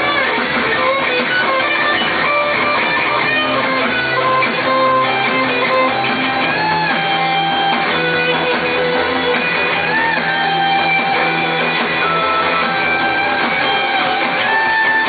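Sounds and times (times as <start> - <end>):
electric guitar bending notes: 0.0 - 15.0
live rock band: 0.0 - 15.0.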